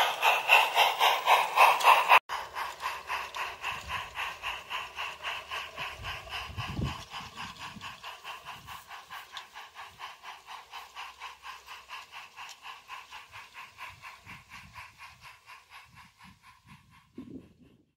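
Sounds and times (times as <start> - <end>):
model steam locomotive chuffing: 0.0 - 17.9.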